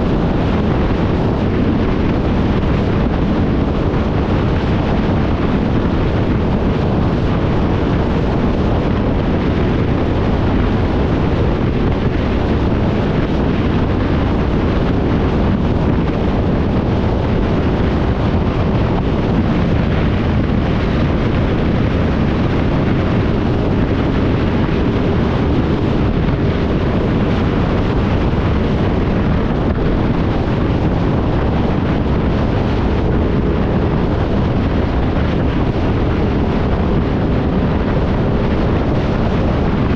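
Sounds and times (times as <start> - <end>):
motorcycle engine hum: 0.0 - 39.9
wind rushing over microphone: 0.0 - 39.9.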